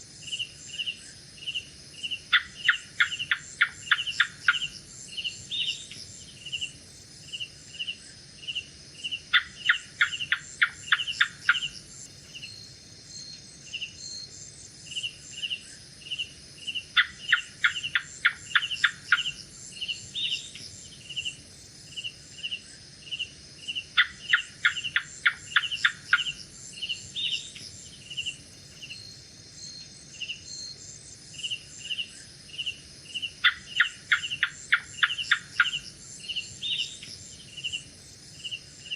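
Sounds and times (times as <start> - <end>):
night insects chorus: 0.0 - 38.9.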